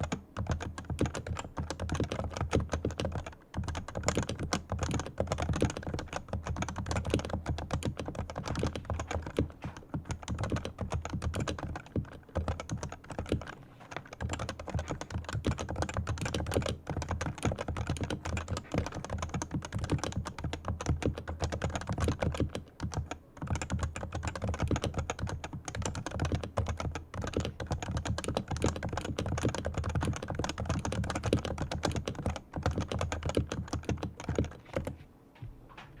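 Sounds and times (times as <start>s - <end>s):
keyboard typing: 0.0s - 35.0s.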